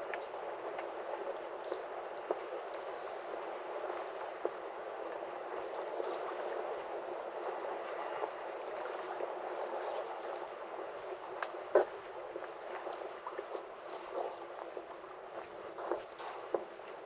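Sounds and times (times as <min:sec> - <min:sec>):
water lapping against quay: 0:00.0 - 0:17.0.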